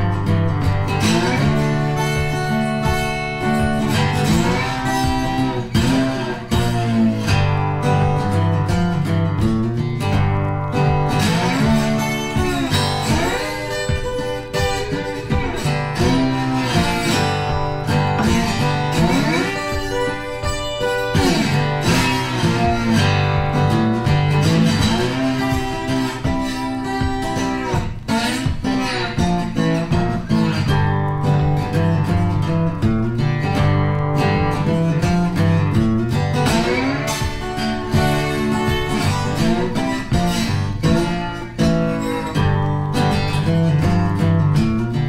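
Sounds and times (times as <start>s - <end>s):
acoustic guitar music: 0.0s - 45.0s.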